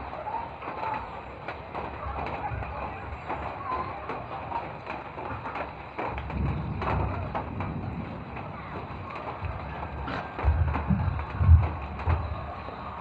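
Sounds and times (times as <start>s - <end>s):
light rain hissing: 0.0s - 13.0s.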